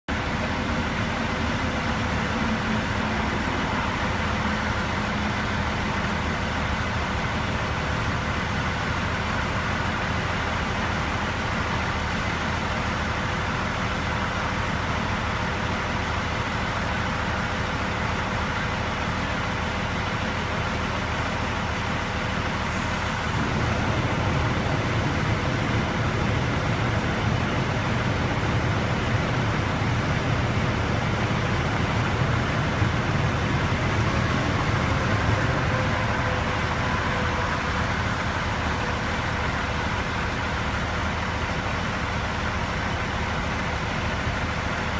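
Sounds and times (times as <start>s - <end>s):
highway traffic: 0.0s - 44.9s
deep engine rumble: 0.1s - 44.9s.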